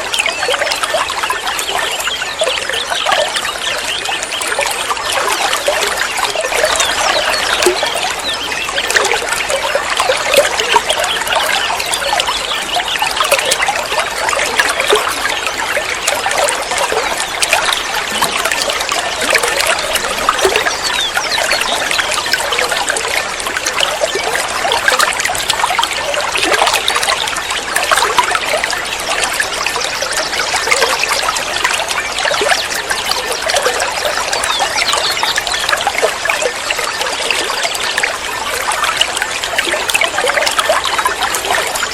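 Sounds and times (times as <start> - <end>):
water trickling: 0.0 - 41.9.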